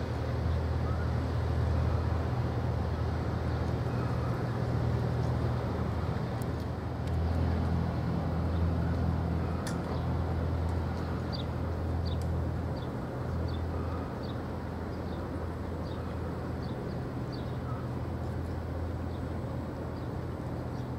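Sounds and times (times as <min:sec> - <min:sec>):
ship engine rumbling: 0:00.0 - 0:20.9.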